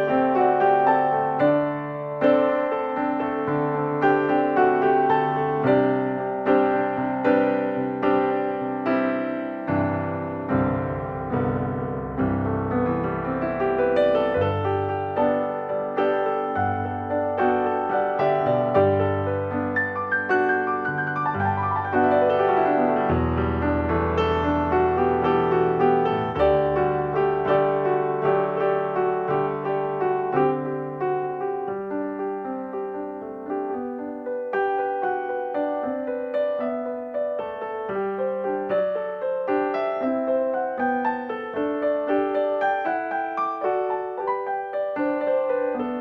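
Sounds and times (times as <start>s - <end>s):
gentle piano piece: 0.0s - 46.0s.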